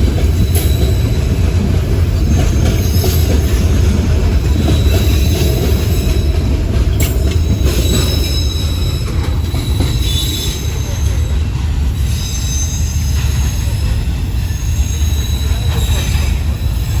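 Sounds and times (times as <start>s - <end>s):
freight train rumbling past: 0.0s - 17.0s
train wheel squeal: 0.0s - 17.0s.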